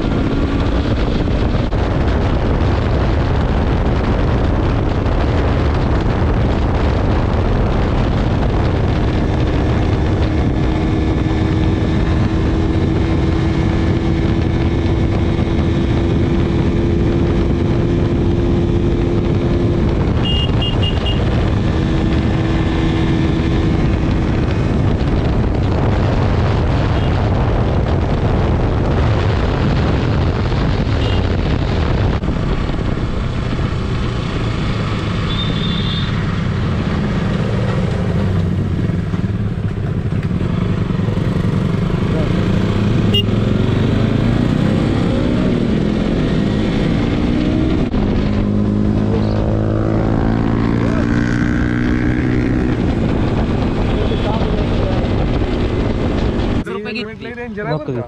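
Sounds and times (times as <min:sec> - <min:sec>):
motorcycle engine running: 0:00.0 - 0:56.8
wind rush: 0:00.0 - 0:58.0.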